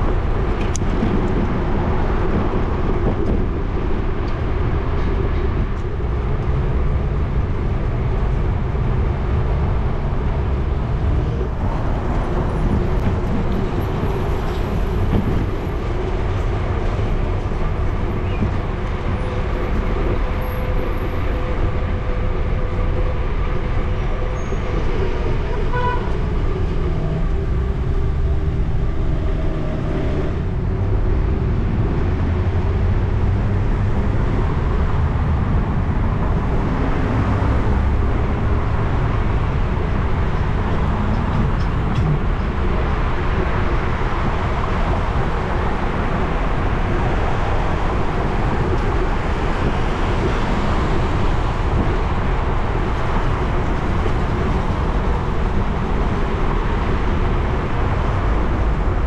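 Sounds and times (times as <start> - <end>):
street traffic: 0.0 - 59.0
wind rumbling on microphone: 0.0 - 59.0.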